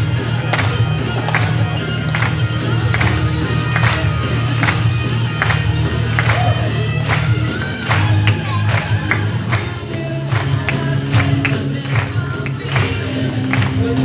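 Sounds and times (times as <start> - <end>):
crowd noise: 0.0 - 14.0
loud music with drums and bass: 0.0 - 14.0.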